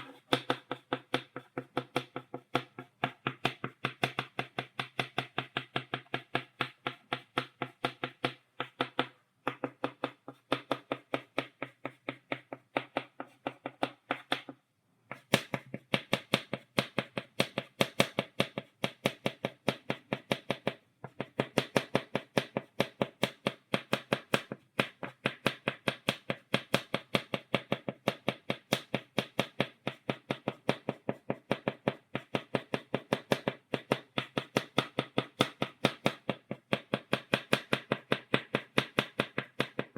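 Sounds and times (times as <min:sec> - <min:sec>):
chalk tapping on blackboard: 0:00.0 - 0:39.9.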